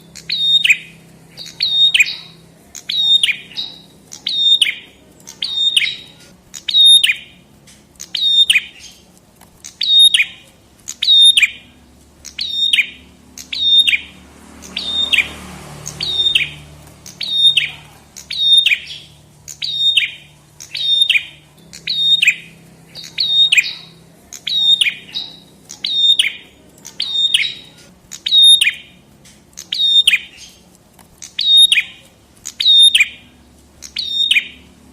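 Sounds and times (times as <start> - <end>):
songbird calling: 0.0 - 34.9.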